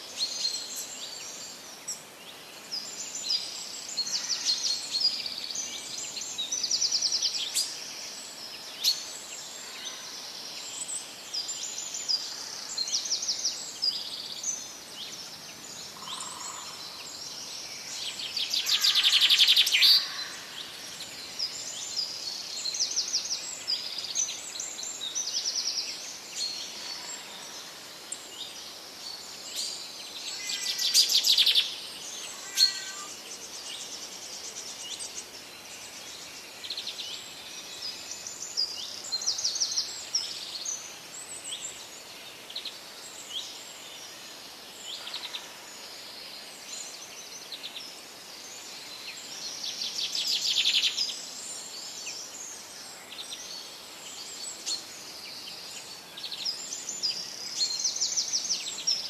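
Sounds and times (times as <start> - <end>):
faint steady hiss: 0.0 - 59.0
songbirds chirping and trilling: 0.0 - 59.0.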